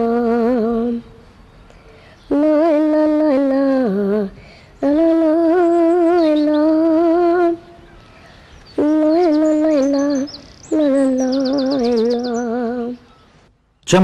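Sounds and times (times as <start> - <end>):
high voice humming a lullaby: 0.0 - 13.3.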